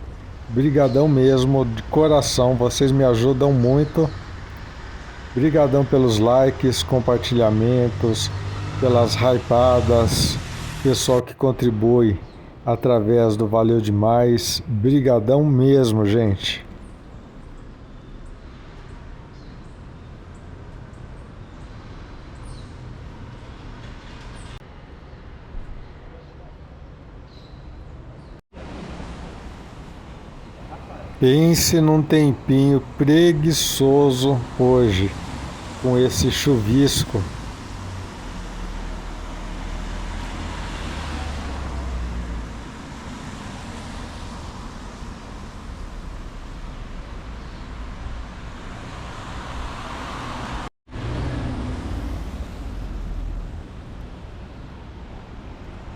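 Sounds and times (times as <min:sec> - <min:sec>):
low rumble of street traffic: 0:00.0 - 0:55.9.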